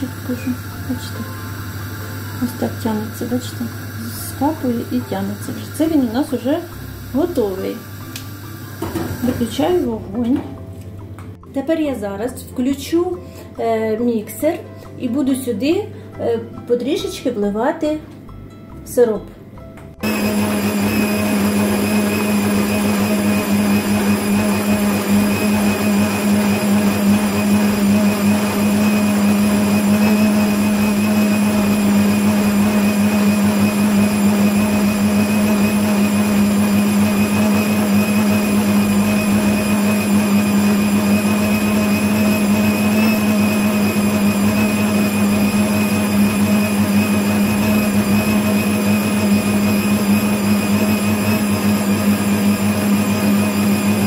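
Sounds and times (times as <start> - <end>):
stand mixer motor humming: 0.0 - 9.9, 20.0 - 54.0.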